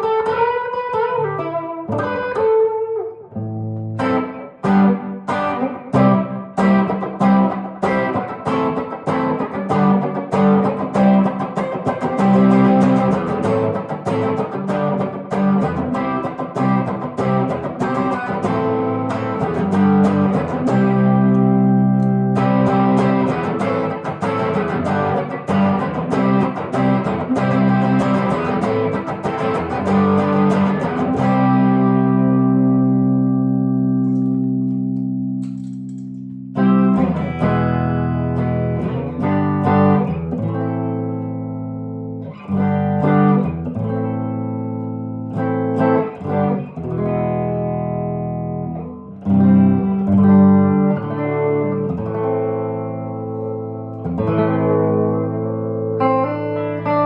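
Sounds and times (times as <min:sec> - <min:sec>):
electric guitar chords: 0:00.0 - 0:57.0.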